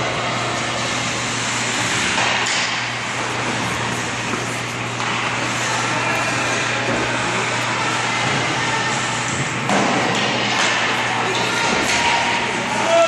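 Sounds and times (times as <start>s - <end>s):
constant low hum: 0.0s - 12.9s.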